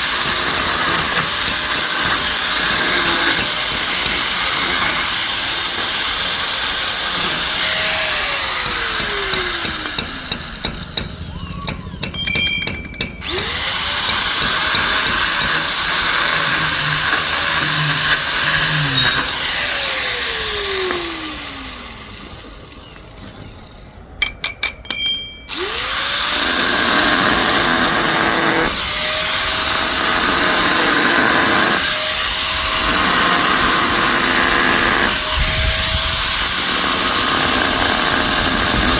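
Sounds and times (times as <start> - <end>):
electric drill boring into stone: 0.0 - 12.2, 13.2 - 23.6, 25.5 - 38.9.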